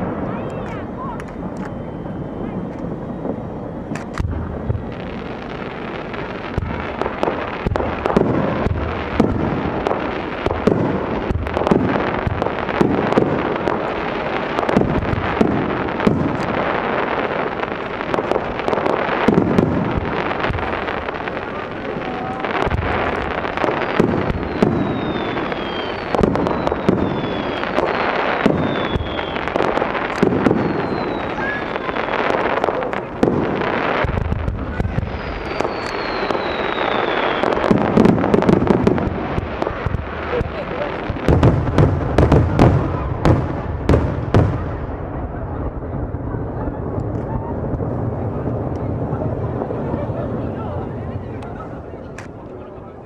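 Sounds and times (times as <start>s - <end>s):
falling firework whistles: 0.0s - 44.6s
firework crackle: 0.0s - 53.0s.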